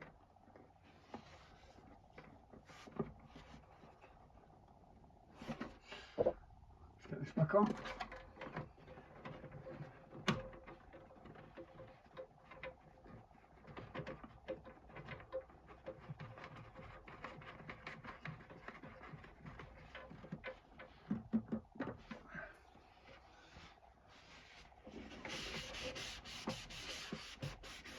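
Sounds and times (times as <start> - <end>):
faint steady hum: 0.0 - 27.9.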